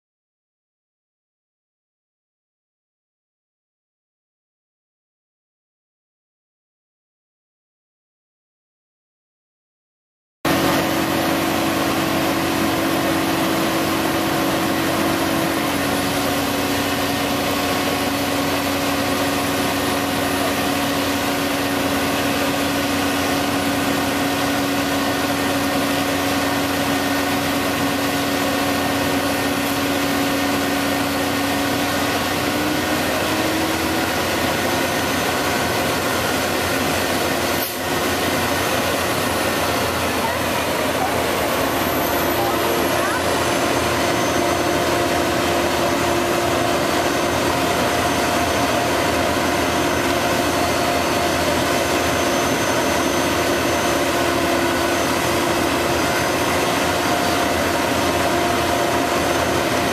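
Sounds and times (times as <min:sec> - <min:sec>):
heavy diesel engines running: 0:10.5 - 0:59.9
steady whine: 0:10.5 - 0:59.9.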